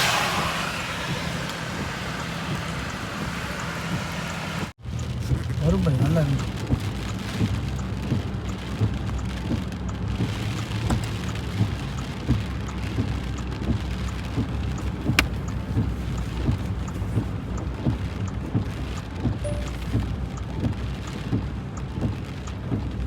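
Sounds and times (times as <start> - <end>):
heavy rain pouring: 0.0 - 23.0
raindrops tapping hard surfaces: 0.0 - 23.0.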